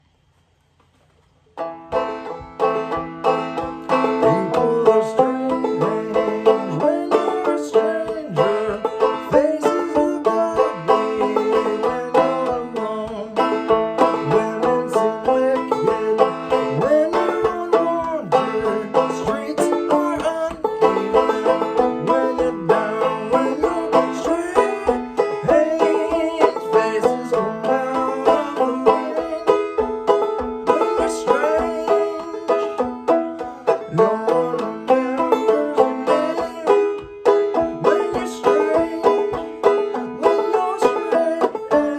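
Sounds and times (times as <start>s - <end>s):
banjo plucked melody: 1.6s - 41.9s.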